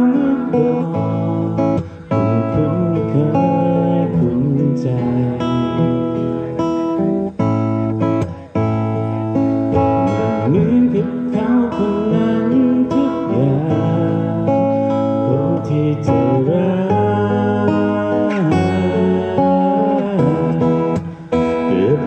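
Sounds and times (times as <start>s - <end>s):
song with strummed acoustic guitar: 0.0s - 22.0s.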